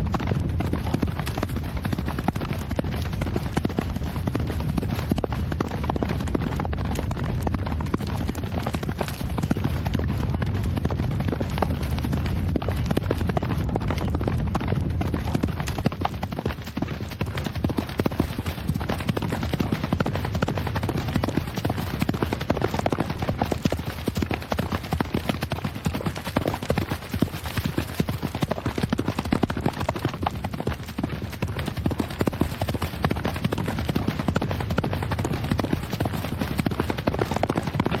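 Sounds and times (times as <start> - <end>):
hooves on dirt track: 0.0 - 38.0.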